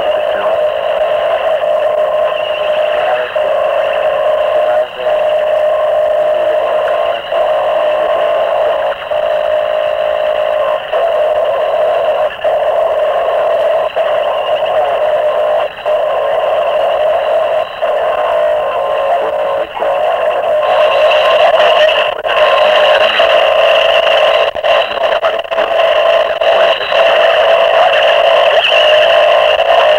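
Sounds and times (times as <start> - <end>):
distorted harsh noise: 0.0 - 29.9.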